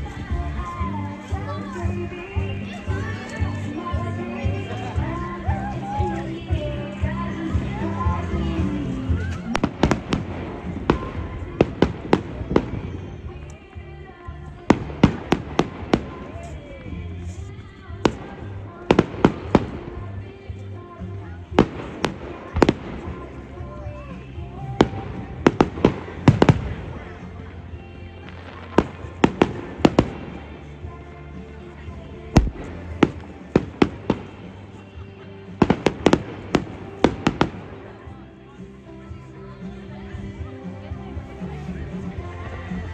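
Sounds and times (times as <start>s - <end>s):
music playing: 0.0s - 42.9s.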